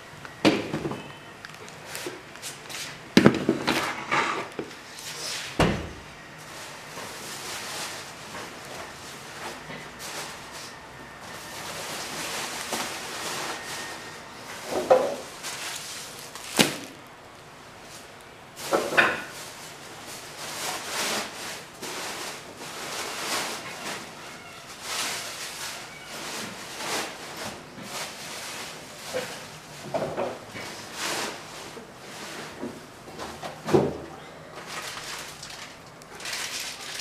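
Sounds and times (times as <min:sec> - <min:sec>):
containers rustling and clattering: 0:06.4 - 0:17.2, 0:17.9 - 0:37.0.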